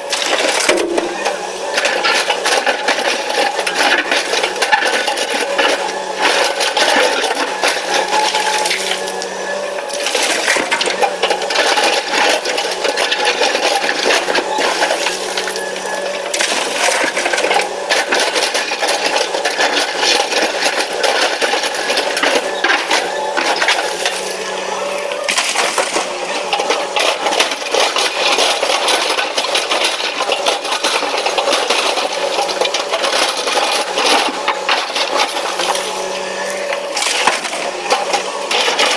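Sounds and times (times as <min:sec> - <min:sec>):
rock and gravel clattering: 0:00.0 - 0:09.2, 0:09.9 - 0:38.9.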